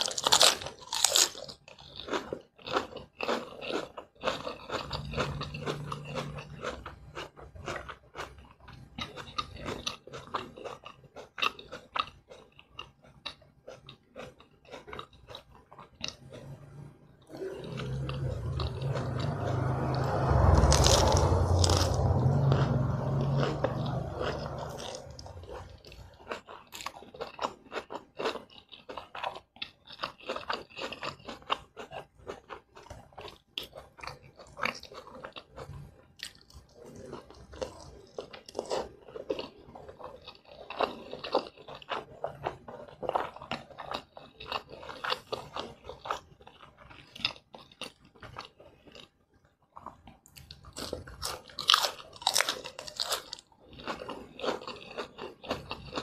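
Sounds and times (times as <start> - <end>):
lettuce crunching: 0.0 - 49.1, 49.8 - 56.0
wet chewing: 0.0 - 56.0.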